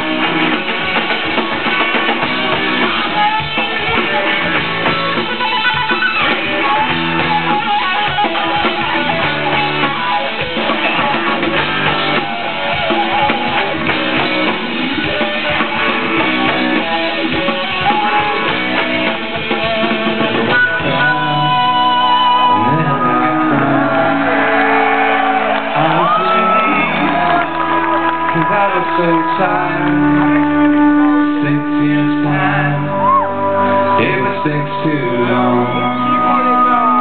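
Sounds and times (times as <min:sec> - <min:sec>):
drum kit: 0:00.0 - 0:33.3
electric guitars: 0:00.0 - 0:37.0
live rock band playing: 0:00.0 - 0:37.0.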